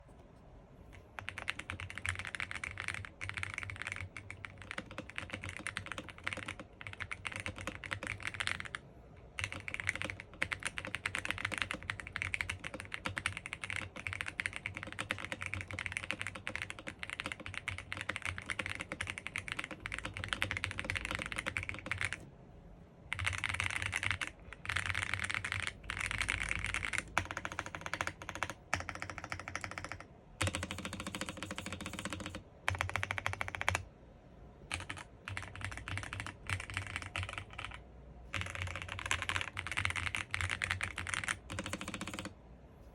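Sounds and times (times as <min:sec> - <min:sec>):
fast typing on mechanical keyboard: 0:01.0 - 0:22.2, 0:23.1 - 0:33.9, 0:34.7 - 0:42.4.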